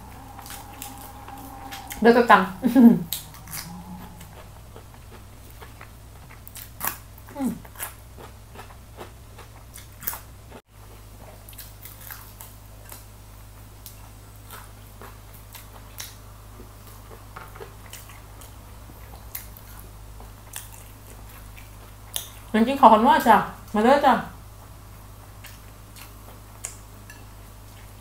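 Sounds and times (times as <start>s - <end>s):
faint low hum: 0.0s - 28.0s
chewing crispy chicken wings: 3.1s - 23.4s, 24.9s - 28.0s.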